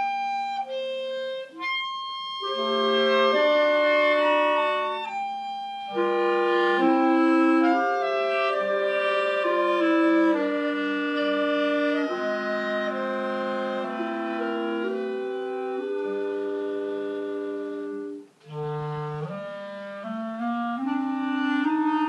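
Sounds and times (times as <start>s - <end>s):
clarinets playing held chords: 0.0s - 22.0s.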